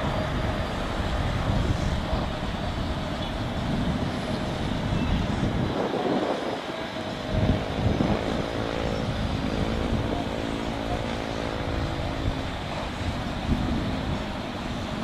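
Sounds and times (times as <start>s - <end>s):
held engine drone: 0.0s - 15.0s
jet engines at takeoff: 0.0s - 15.0s.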